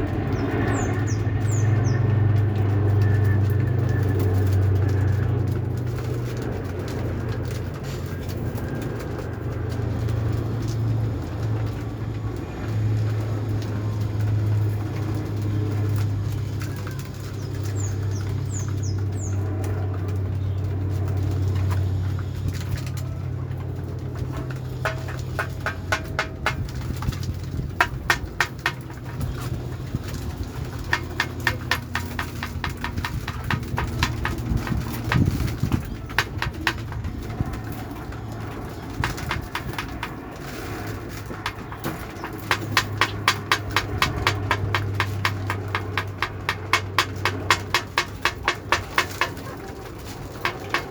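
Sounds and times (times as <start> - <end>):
pigeon wings flapping: 0.1 - 50.9.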